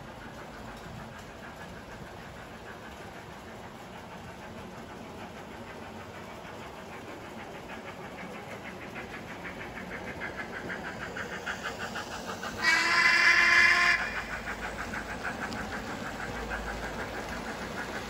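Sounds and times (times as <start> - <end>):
model train running noise: 0.0 - 18.0
rhythmic locomotive beat: 0.0 - 18.0.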